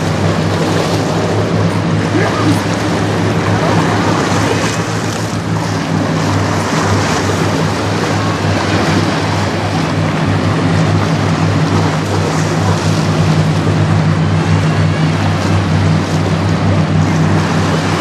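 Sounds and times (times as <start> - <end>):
choppy water splashing: 0.0 - 18.0
ship engine drone: 0.0 - 18.0.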